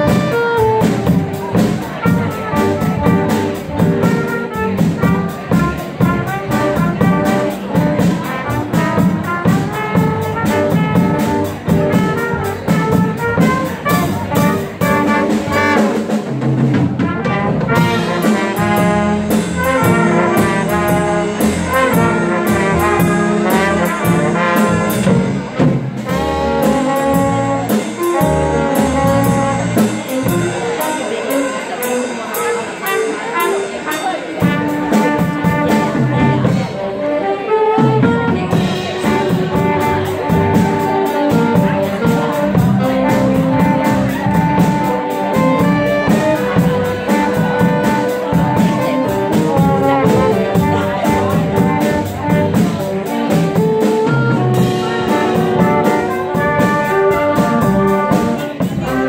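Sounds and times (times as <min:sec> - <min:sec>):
drum kit: 0:00.0 - 0:59.0
saxophone lead: 0:00.0 - 0:59.0
trumpet: 0:00.0 - 0:59.0
upright bass: 0:00.0 - 0:59.0.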